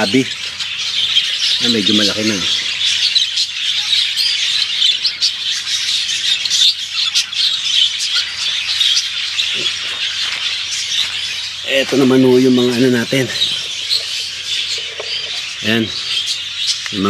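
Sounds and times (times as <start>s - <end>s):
birds chirping and chattering: 0.0s - 17.0s.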